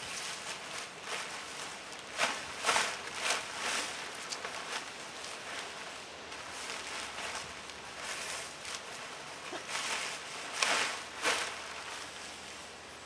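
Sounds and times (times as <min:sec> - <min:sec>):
tarp fabric rustling: 0:00.0 - 0:13.0.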